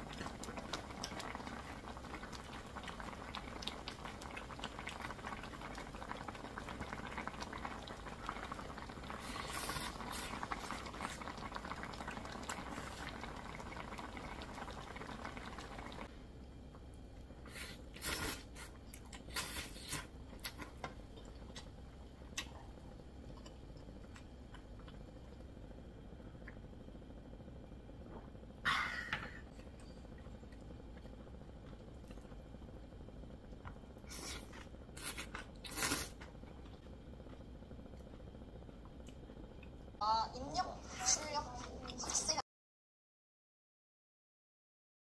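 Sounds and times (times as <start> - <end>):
broth bubbling and crackling: 0.0 - 42.0.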